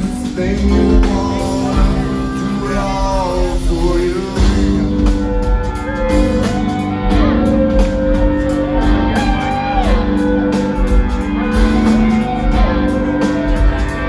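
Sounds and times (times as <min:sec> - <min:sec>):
bass guitar: 0:00.0 - 0:14.0
drums keeping a steady beat: 0:00.0 - 0:14.0
sliding melodic guitar lines: 0:00.0 - 0:14.0.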